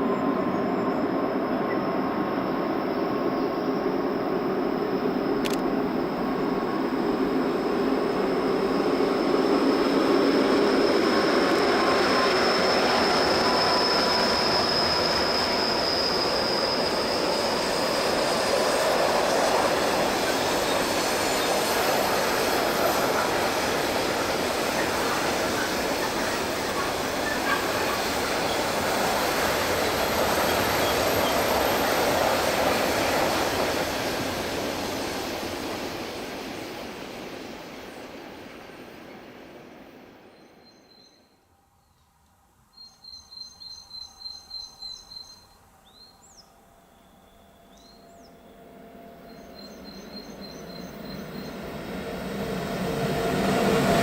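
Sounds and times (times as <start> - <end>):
train running on track: 0.0 - 41.4, 43.0 - 54.0.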